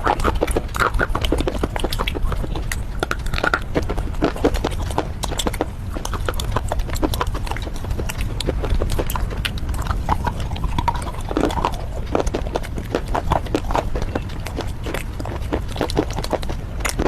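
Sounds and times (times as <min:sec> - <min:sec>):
low rumble: 0:00.0 - 0:17.0
mouth chewing and crunching: 0:00.0 - 0:17.0.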